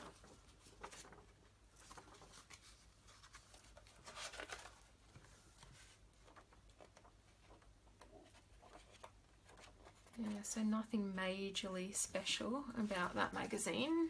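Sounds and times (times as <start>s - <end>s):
paper pages rustling: 0.0s - 10.5s, 12.2s - 14.0s.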